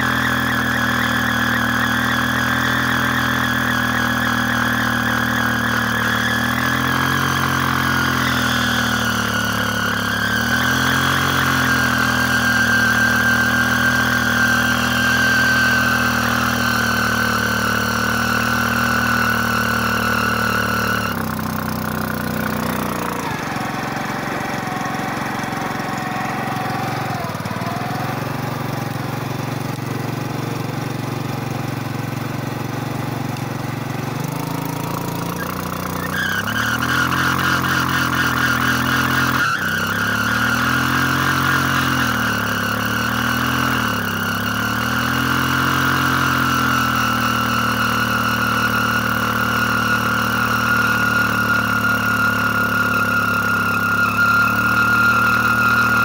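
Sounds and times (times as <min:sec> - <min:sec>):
tyre squealing: 0:00.0 - 0:30.3, 0:34.2 - 0:56.0
motorcycle engine revving: 0:00.0 - 0:56.0.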